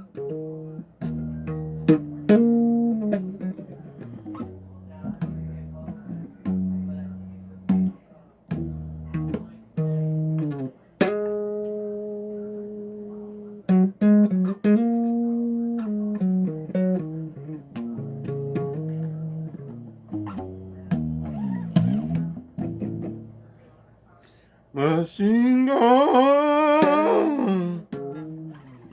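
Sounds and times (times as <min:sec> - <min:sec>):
bass guitar playing: 0:00.0 - 0:12.9, 0:13.7 - 0:23.4, 0:26.8 - 0:28.9.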